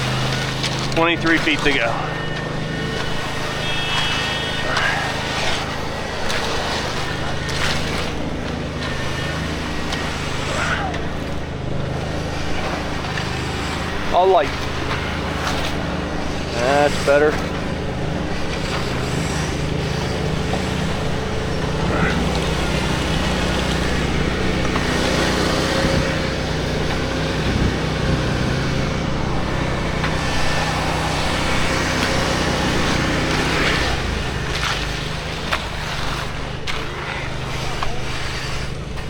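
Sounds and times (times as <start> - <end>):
machinery engines humming: 0.0 - 39.0.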